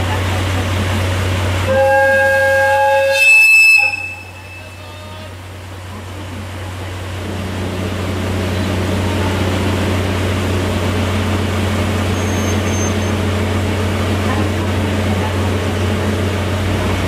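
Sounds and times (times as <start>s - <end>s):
diesel locomotive engine droning: 0.0s - 17.0s.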